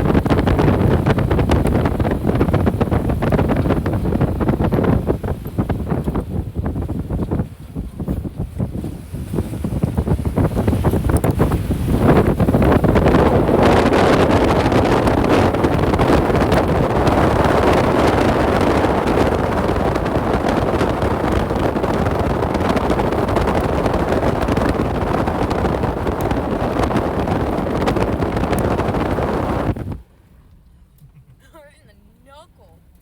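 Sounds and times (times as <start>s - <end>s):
wind buffeting microphone: 0.0s - 30.2s
vehicle engine and tyre noise: 0.0s - 31.6s.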